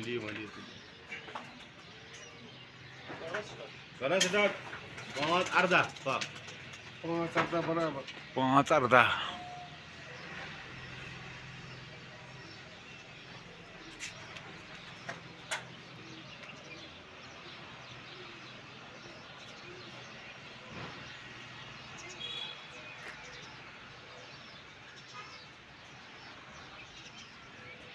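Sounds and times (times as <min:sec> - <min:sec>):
low hum of town background: 0:00.0 - 0:27.9
small birds chirping: 0:00.0 - 0:27.9.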